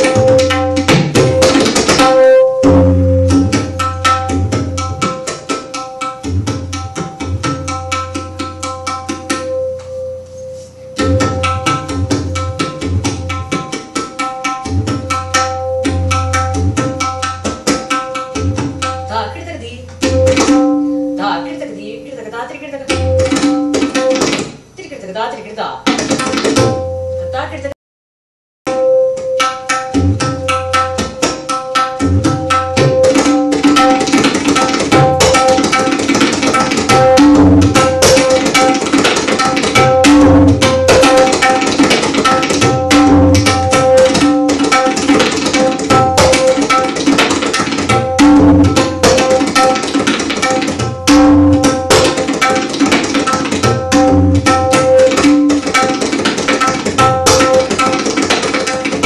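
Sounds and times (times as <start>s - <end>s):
tabla playing fast: 0.0s - 10.2s, 10.9s - 25.0s, 25.8s - 27.6s, 28.7s - 59.0s.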